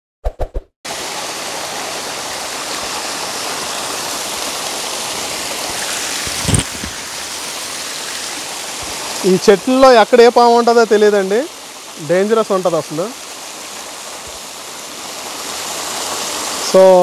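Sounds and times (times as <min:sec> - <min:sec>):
waterfall over rocks: 0:00.9 - 0:17.0.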